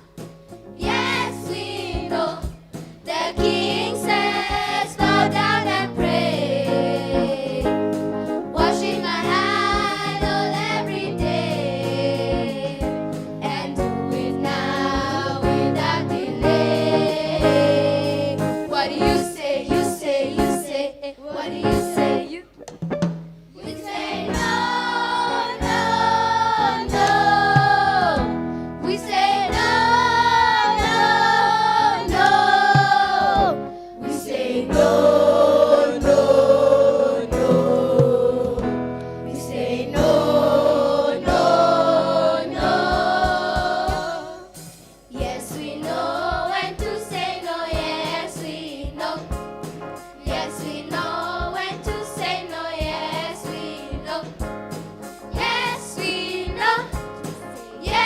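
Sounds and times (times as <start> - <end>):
backing music with steady beat: 0.0 - 20.8, 21.4 - 58.0
choir singing gospel: 0.7 - 22.3, 23.6 - 58.0.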